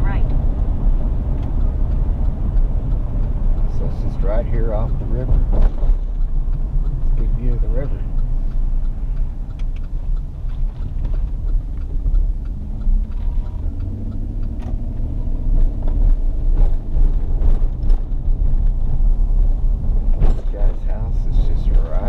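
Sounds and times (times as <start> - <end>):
road and engine rumble in vehicle: 0.0 - 22.0.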